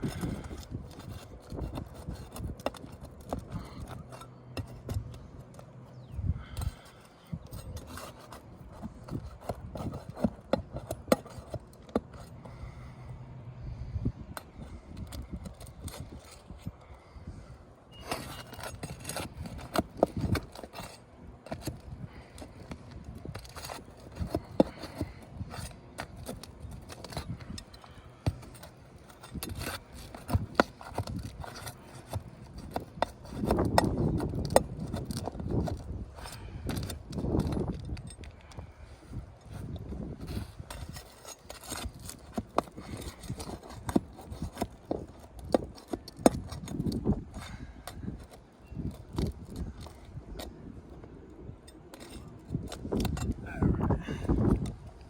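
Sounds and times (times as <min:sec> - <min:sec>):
tool scraping shingles: 0:00.0 - 0:13.0, 0:13.7 - 0:55.0.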